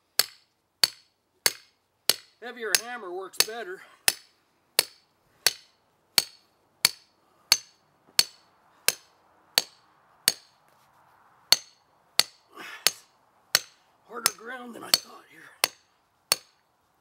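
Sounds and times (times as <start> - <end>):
hammer striking metal stake: 0.2 - 10.6, 11.5 - 16.7.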